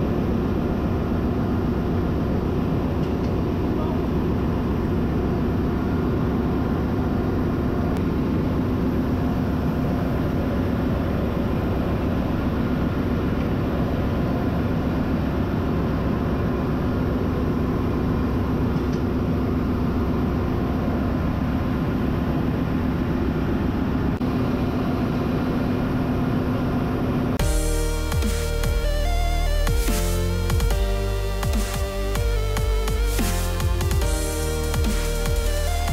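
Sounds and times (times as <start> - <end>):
machinery drone: 0.0 - 35.9.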